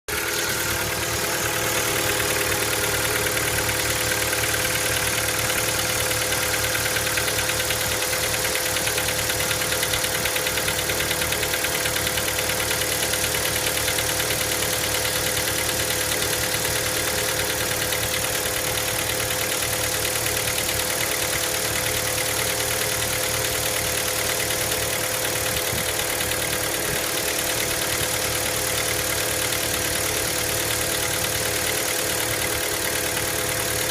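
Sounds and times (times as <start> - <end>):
car engine idling: 0.1 - 33.9
engine knocking tick: 0.1 - 33.9.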